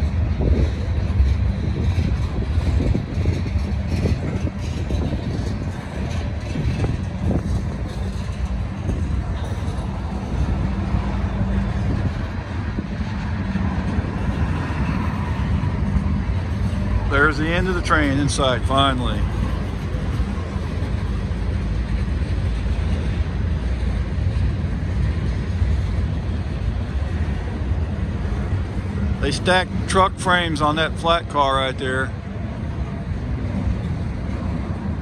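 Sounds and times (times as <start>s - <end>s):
train wheels clacking: 0.0s - 31.5s
freight train wheels rumbling: 0.0s - 35.0s.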